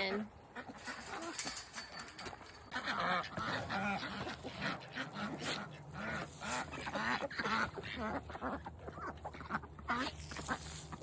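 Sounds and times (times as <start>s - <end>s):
ducks quacking: 0.0s - 1.6s, 2.7s - 11.0s.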